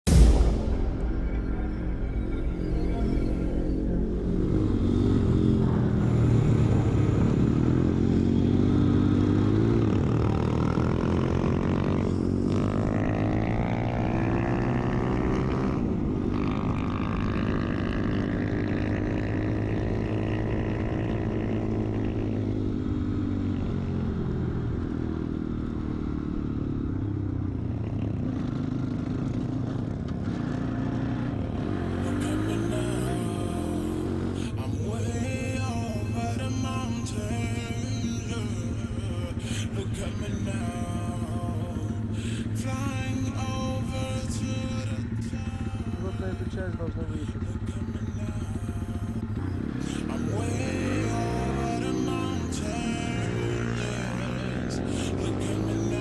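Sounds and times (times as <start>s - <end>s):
vehicle engine accelerating through gears: 0.0s - 56.0s.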